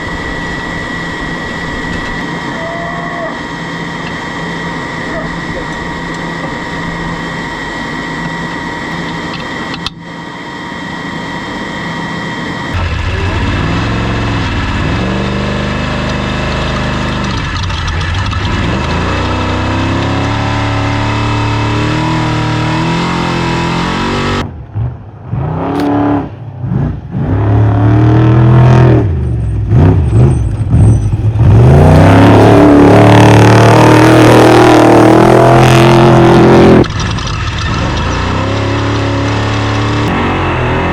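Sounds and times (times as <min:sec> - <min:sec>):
truck engine revving: 0:00.0 - 0:10.0, 0:11.1 - 0:40.9.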